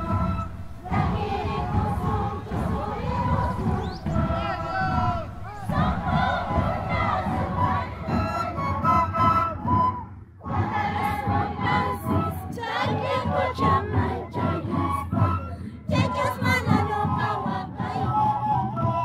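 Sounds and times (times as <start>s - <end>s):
crowd singing and shouting: 0.0s - 9.6s, 10.4s - 18.2s
wooden flutes playing shrill melody: 0.0s - 19.0s.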